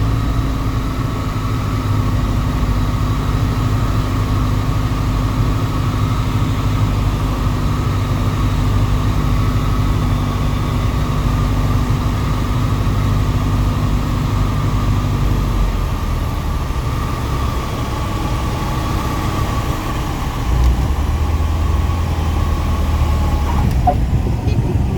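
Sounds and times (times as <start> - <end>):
propeller aircraft engine running: 0.0 - 24.9.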